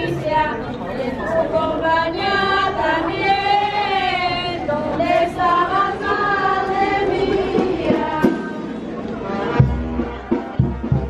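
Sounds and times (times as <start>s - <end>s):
women and children singing hymn: 0.0s - 9.1s.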